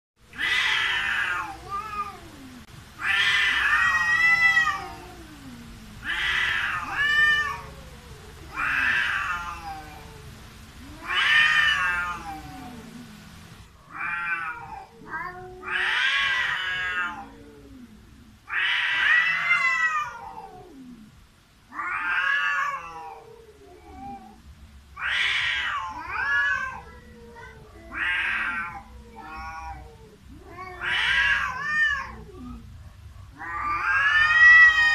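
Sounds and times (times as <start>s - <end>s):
cats yowling: 0.3s - 13.2s, 13.8s - 32.7s, 33.3s - 34.9s.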